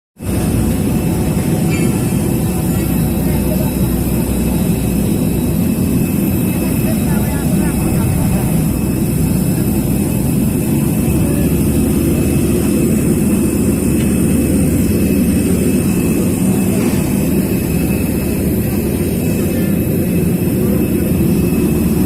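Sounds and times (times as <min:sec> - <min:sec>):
faint high whine: 0:00.2 - 0:22.0
jet cabin low rumble: 0:00.2 - 0:22.0.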